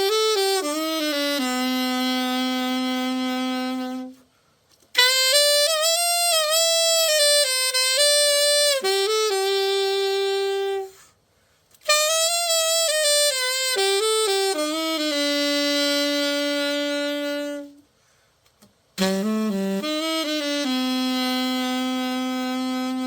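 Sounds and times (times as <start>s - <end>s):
alto saxophone solo: 0.0s - 11.2s, 11.8s - 23.0s.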